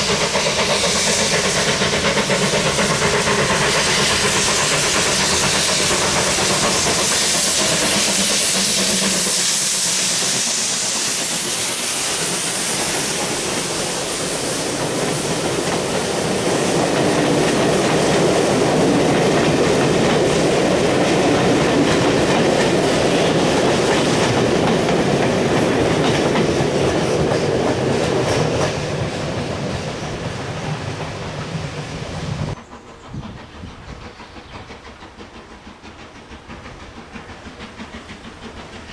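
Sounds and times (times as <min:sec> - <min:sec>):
steam locomotive hissing steam: 0:00.0 - 0:38.9
train wheels clattering over rail joints: 0:00.0 - 0:38.9.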